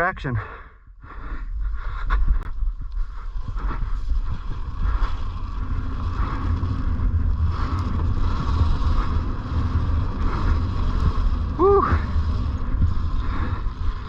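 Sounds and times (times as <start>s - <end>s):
dirt bike engine rumbling: 0.0s - 14.0s.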